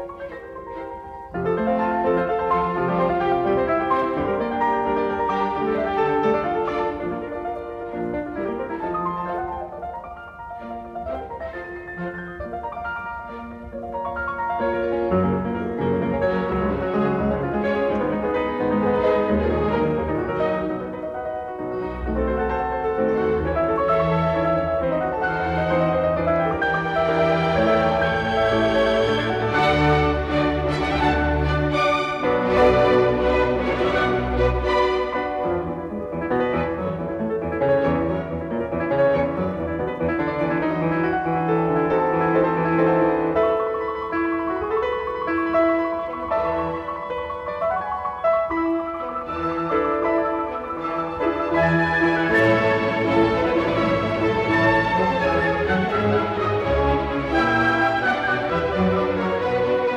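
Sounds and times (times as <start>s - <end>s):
classical piano music: 0.0s - 59.9s.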